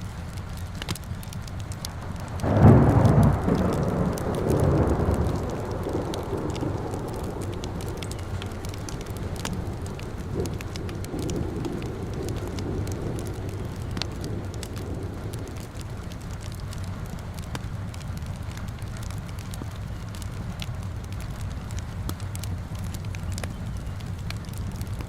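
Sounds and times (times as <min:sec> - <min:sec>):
fireplace crackling: 0:00.0 - 0:25.0
rain rumbling: 0:00.0 - 0:25.0.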